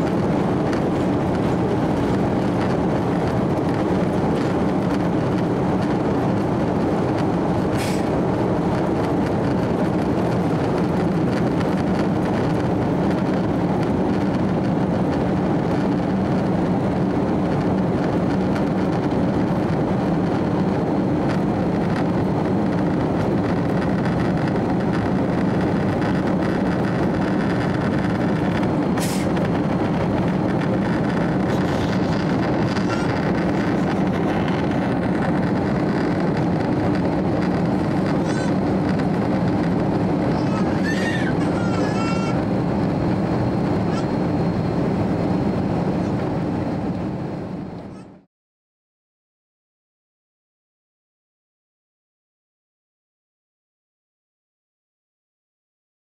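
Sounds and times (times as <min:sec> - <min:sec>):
jet engines rushing in cabin: 0:00.0 - 0:48.3.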